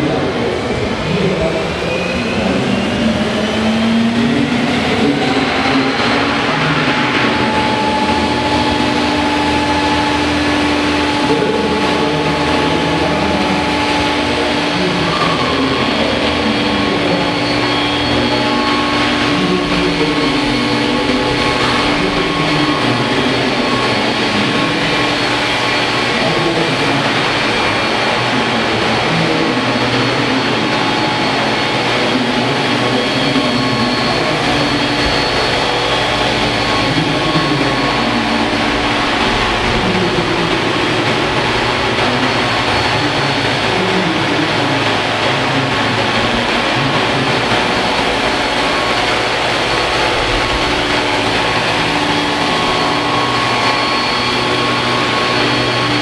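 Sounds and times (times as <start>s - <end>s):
model helicopter turbine whine: 0.0s - 56.0s.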